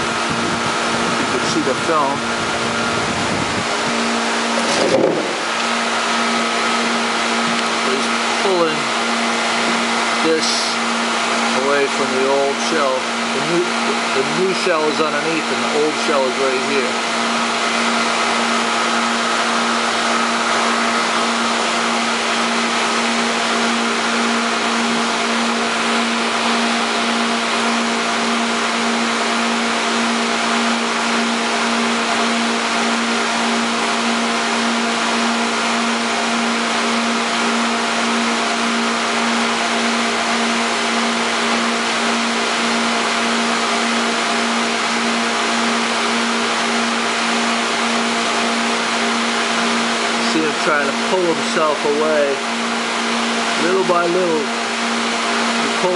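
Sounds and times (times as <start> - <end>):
pumps rushing and humming: 0.0 - 55.9.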